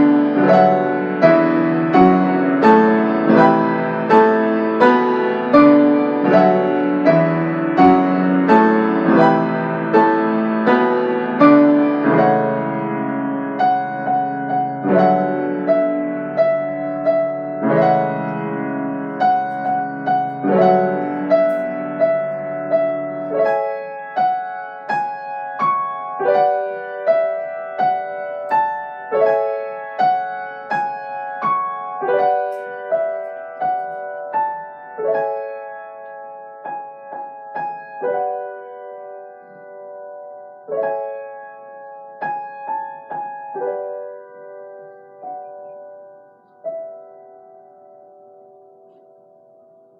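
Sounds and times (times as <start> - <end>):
solo piano music: 0.0 - 49.9.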